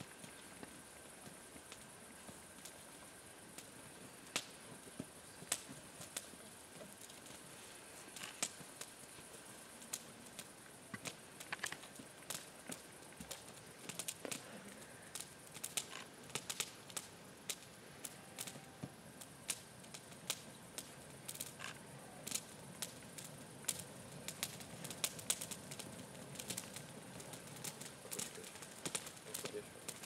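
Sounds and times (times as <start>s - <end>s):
faint hiss: 0.0s - 30.0s
fire crackling: 0.0s - 30.0s.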